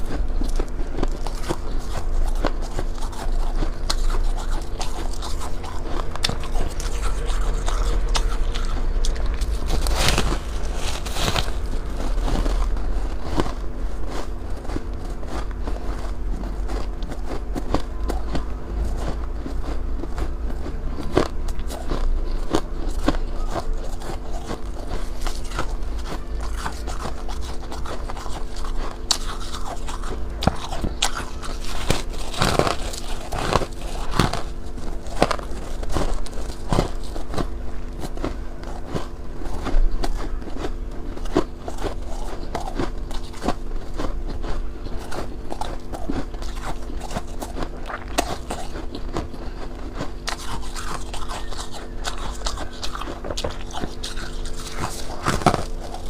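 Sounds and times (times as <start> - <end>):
ice crunching in mouth: 0.0 - 56.0
steady low hum: 0.0 - 56.0.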